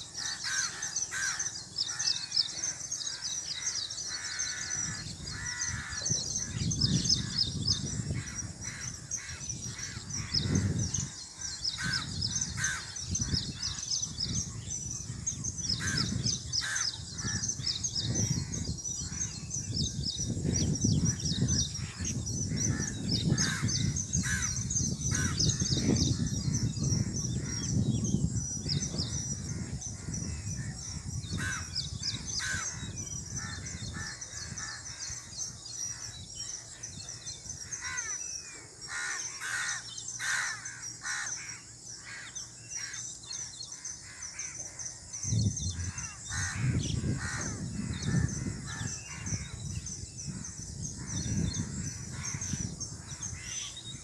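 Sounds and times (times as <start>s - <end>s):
birds twittering: 0.0s - 54.0s.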